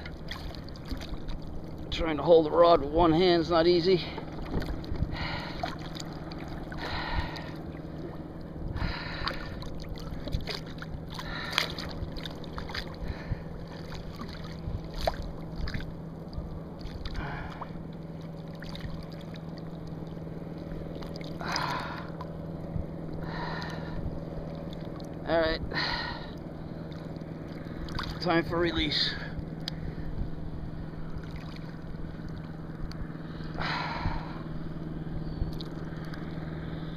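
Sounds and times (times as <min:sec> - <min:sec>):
steady low hum: 0:00.0 - 0:36.9
water splashing and sloshing: 0:00.0 - 0:36.9.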